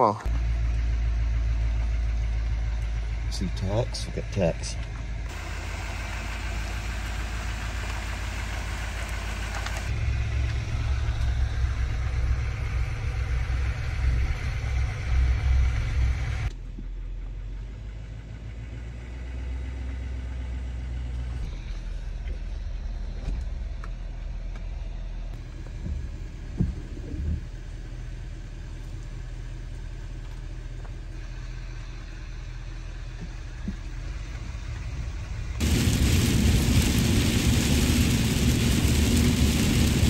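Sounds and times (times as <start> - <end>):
truck engine and road noise: 0.0 - 40.0.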